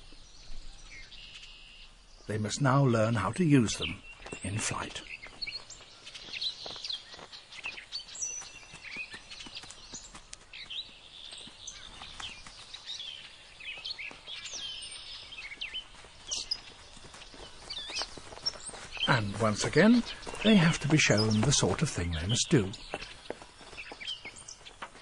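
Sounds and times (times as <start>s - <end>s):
birds chirping and whistling: 0.0s - 25.0s.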